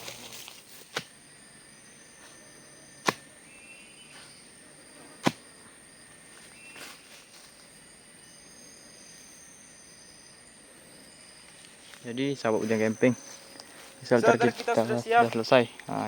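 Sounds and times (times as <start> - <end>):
forest insects droning: 0.0 - 16.0.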